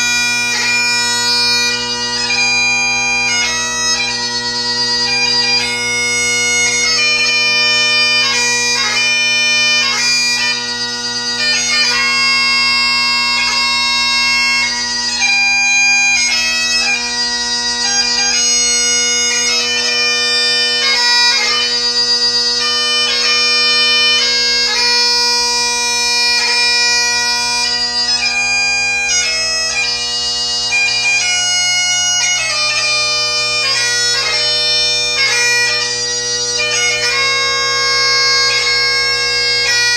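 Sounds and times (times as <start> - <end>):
bagpipe playing: 0.0 - 39.9.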